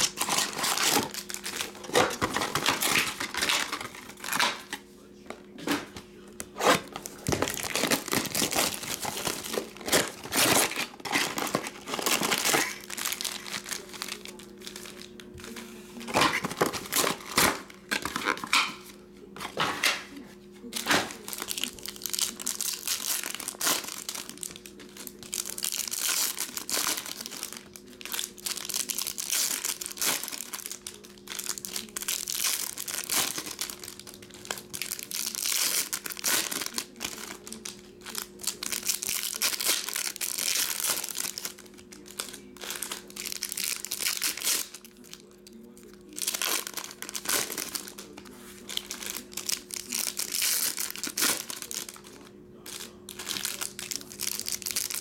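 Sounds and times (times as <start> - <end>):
foil wrappers crinkling and tearing: 0.0 - 4.8, 5.6 - 19.8, 20.6 - 55.0
steady low hum: 0.0 - 55.0.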